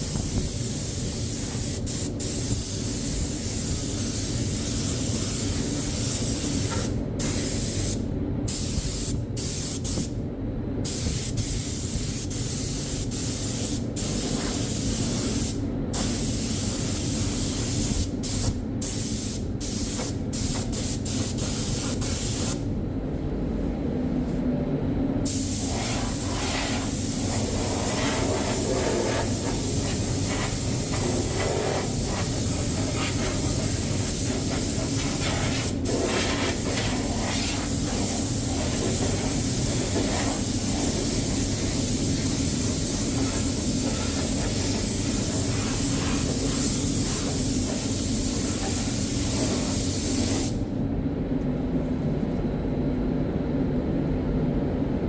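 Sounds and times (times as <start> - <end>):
spray gun hissing: 0.0 - 8.0, 10.9 - 22.6, 25.3 - 50.6.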